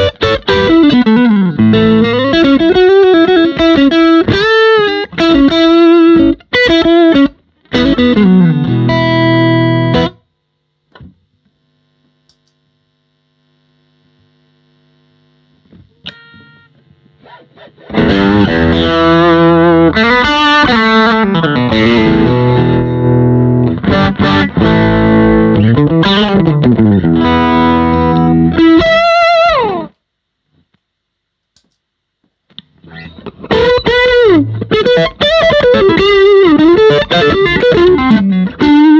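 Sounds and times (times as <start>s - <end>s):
overdriven electric guitar: 0.0s - 30.6s, 32.5s - 38.9s.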